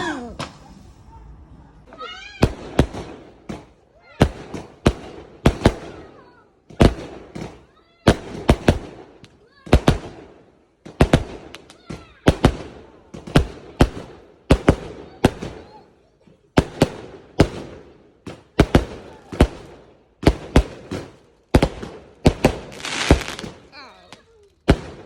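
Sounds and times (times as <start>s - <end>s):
fireworks bangs and crackle: 0.0s - 25.0s.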